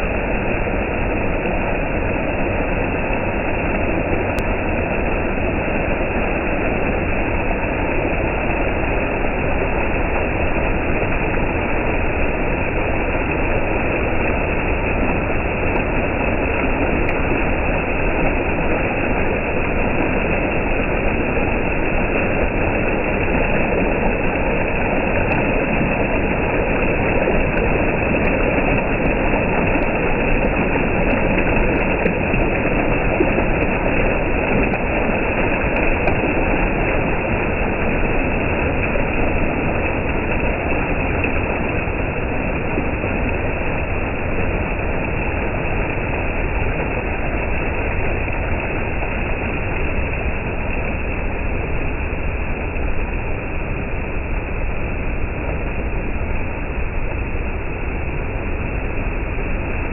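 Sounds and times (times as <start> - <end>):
water rushing over a weir: 0.0 - 59.9.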